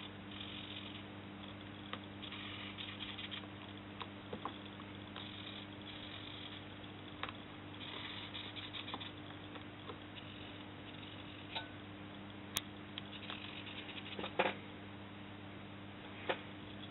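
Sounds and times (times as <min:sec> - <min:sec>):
low electrical hum: 0:00.0 - 0:16.9.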